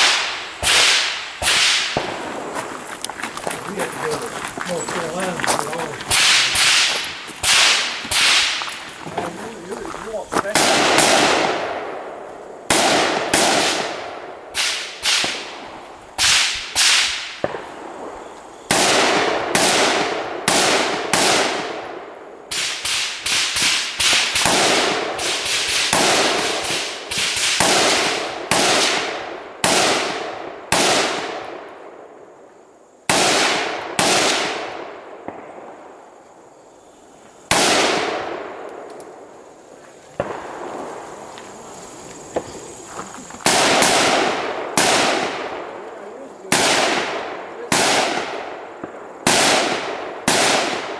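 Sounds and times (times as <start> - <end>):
rifle gunshots echoing: 0.0 - 32.2, 33.1 - 36.1, 37.5 - 39.3, 40.2 - 41.6, 43.4 - 50.9.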